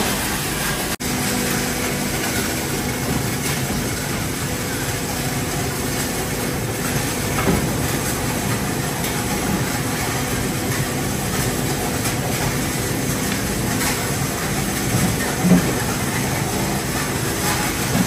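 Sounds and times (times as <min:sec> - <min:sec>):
machine drone and hiss: 0:00.0 - 0:18.0.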